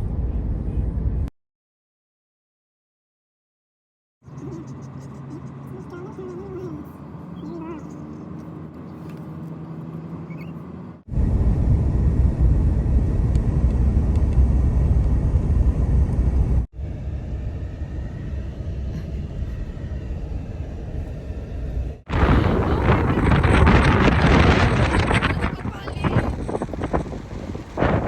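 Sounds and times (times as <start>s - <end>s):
car rumbling on the road: 4.3s - 28.0s.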